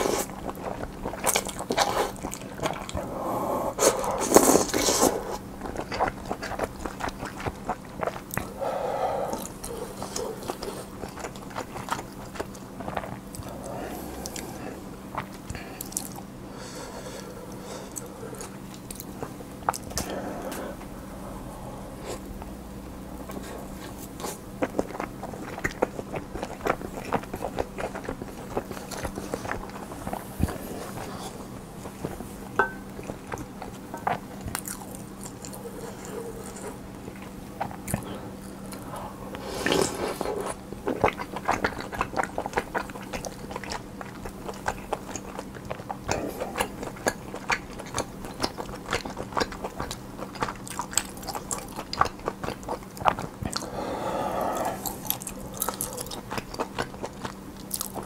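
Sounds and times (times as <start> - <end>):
wet chewing: 0.0 - 3.2, 3.8 - 20.9, 23.1 - 58.0.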